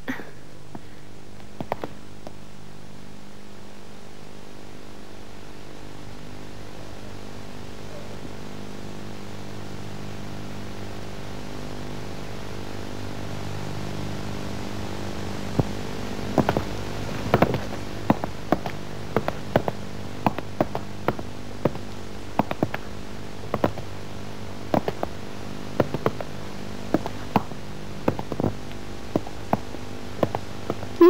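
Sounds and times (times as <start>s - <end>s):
low electrical hum: 0.0s - 31.0s
tape hiss: 0.0s - 31.0s.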